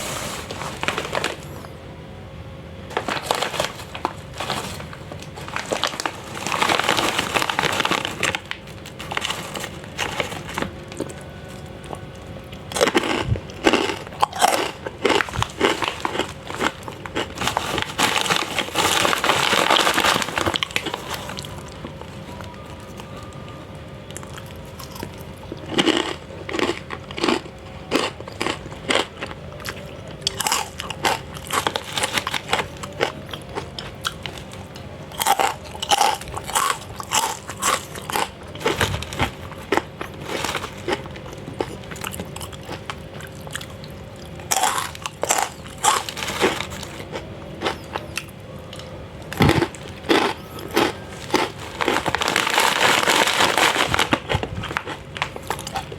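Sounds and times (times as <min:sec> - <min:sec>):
crunchy snack being chewed: 0:03.0 - 0:23.4, 0:24.0 - 0:55.9.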